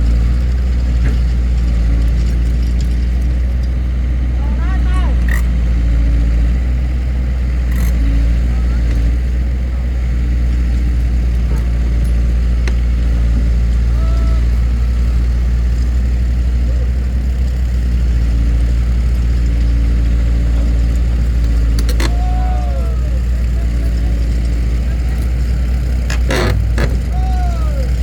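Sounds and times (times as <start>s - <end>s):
engine humming at low speed: 0.0s - 28.0s.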